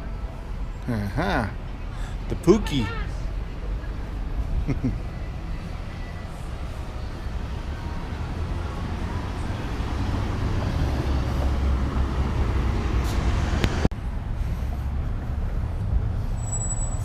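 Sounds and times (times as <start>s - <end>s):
motor vehicle rumbling: 0.0s - 17.0s.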